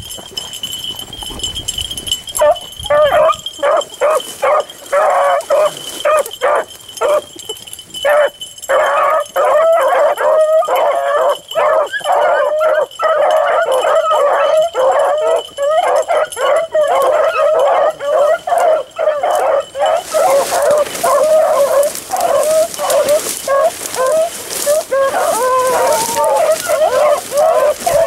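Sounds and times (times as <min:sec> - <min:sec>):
dogs baying: 0:02.3 - 0:28.0.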